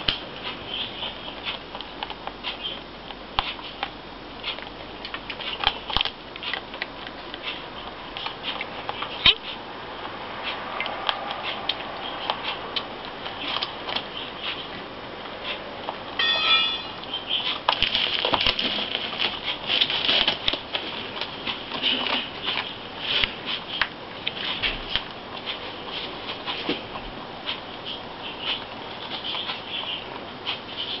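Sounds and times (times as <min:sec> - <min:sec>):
rabbits chewing food: 0:00.0 - 0:31.0.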